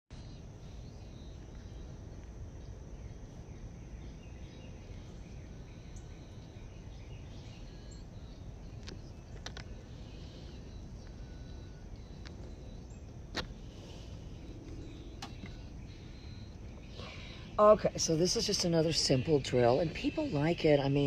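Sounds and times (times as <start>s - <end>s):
faint bird chirps: 0.1s - 21.0s.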